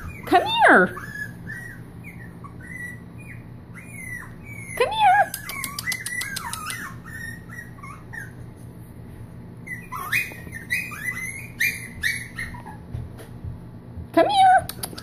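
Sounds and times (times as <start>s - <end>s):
puppies yipping: 0.0s - 8.8s, 9.6s - 13.3s.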